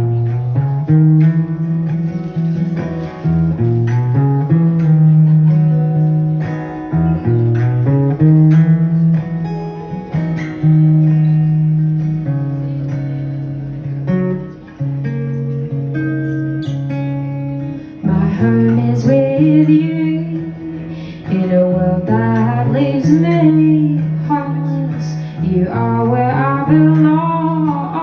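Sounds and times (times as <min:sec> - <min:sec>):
guitar plucked chords: 0:00.0 - 0:28.0.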